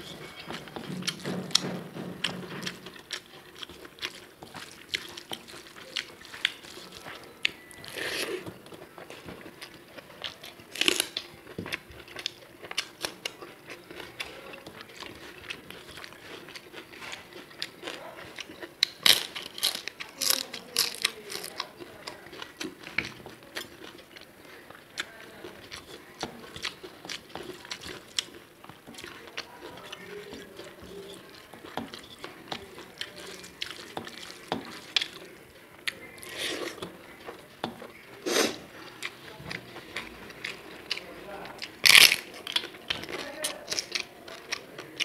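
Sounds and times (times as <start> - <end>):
crisp food crunching: 0.0 - 45.0
wet chewing and smacking: 0.0 - 45.0.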